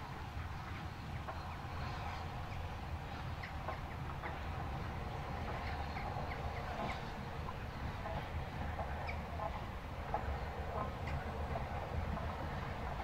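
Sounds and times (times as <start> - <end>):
distant steam train rumbling: 0.0 - 13.0.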